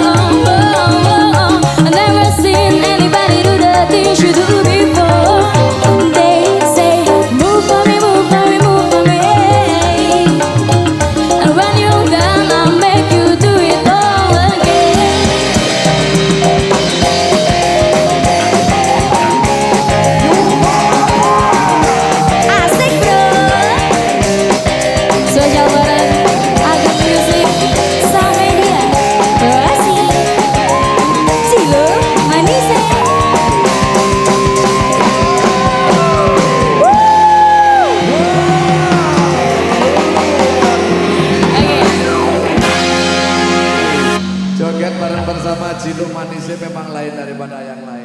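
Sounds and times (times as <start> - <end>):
steady drum beat: 0.0 - 44.2
melodic lead line: 0.0 - 44.5
instrumental band music: 0.0 - 47.0.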